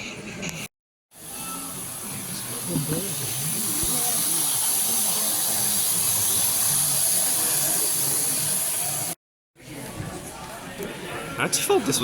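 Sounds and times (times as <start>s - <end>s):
faint murmuring voices: 0.0s - 12.0s.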